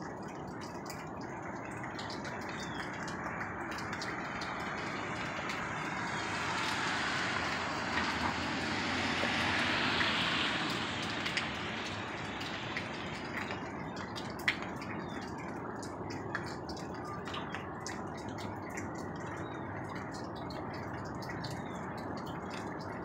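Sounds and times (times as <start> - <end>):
broad rushing noise from sky: 0.0 - 23.0
faint drip-like ticks: 0.0 - 23.0.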